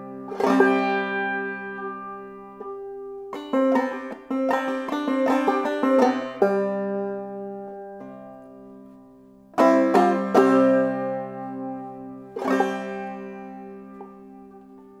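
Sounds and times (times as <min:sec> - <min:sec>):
banjo playing: 0:00.0 - 0:15.0.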